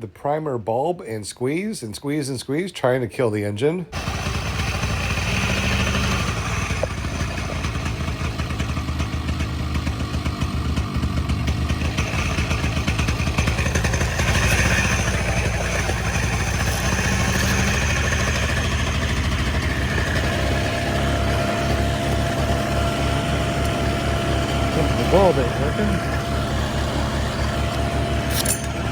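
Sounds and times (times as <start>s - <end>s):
paramotor engine at low throttle: 4.0s - 28.9s.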